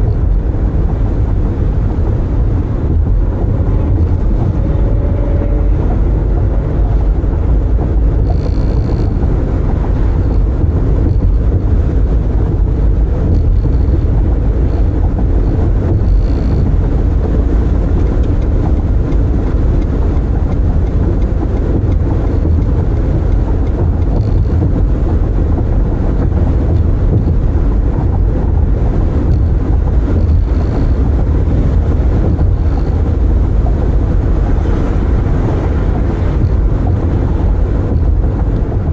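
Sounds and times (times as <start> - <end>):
tyre rumble: 0.0 - 38.9
wind buffeting car cabin: 0.0 - 38.9.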